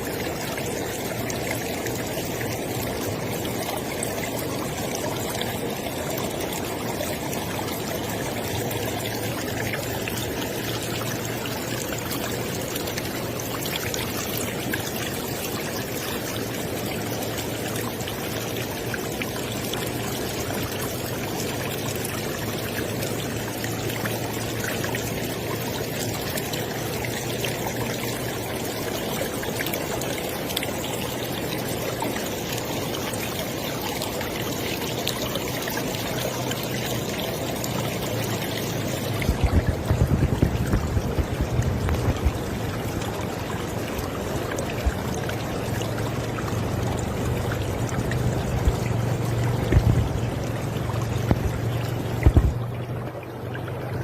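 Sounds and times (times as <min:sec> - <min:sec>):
river water rushing and splashing: 0:00.0 - 0:54.0.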